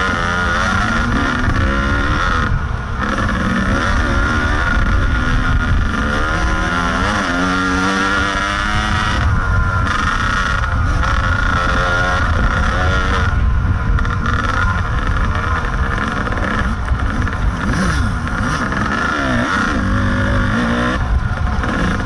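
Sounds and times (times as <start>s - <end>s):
two-stroke dirt bike engine: 0.0s - 22.0s.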